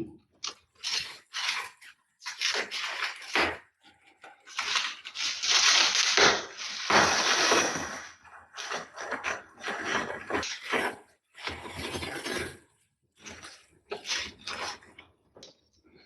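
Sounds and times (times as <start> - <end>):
rustling and crunching handling: 0.4 - 15.1.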